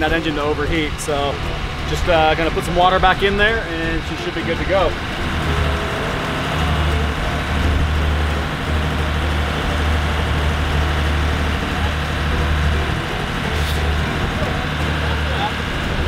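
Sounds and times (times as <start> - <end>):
boat diesel engine droning: 0.0 - 16.0
broad rushing noise: 0.0 - 16.0.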